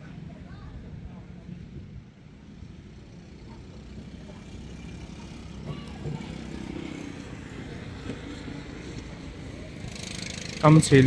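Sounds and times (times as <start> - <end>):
go-kart engines humming: 0.0 - 11.0.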